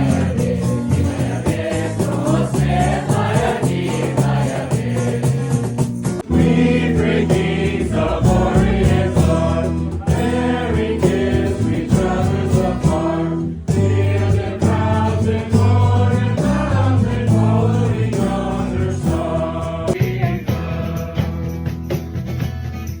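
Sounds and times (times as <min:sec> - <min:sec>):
youth choir singing a carol: 0:00.0 - 0:21.5.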